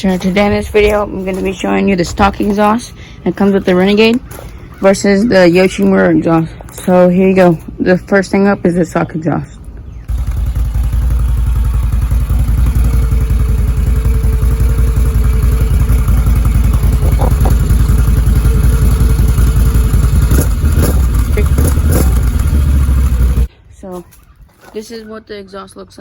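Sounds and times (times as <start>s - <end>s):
atv engine idling: 0.0s - 23.5s.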